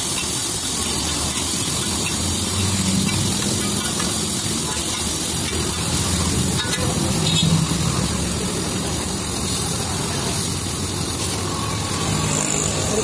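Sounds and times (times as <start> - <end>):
vegetables sizzling on a griddle: 0.0 - 13.0.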